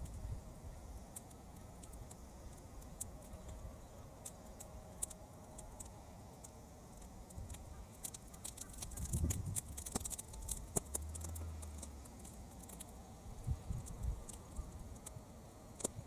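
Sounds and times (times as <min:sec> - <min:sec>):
low rumble of wind: 0:00.0 - 0:06.2, 0:06.8 - 0:16.0
fire crackling and popping: 0:00.0 - 0:16.0.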